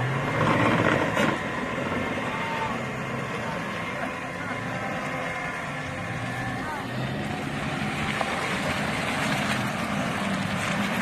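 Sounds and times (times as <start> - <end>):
broad rushing noise: 0.0 - 11.0
off-road vehicle engine running: 0.0 - 11.0.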